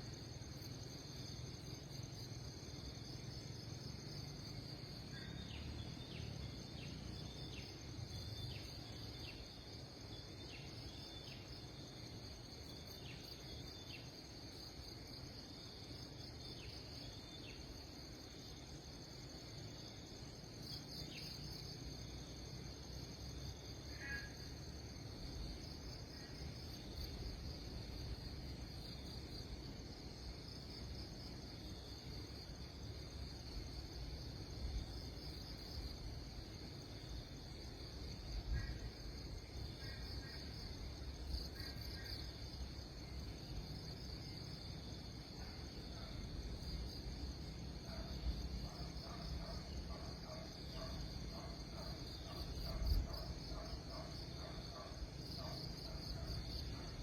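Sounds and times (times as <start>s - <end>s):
insect chorus trilling: 0.0s - 57.0s.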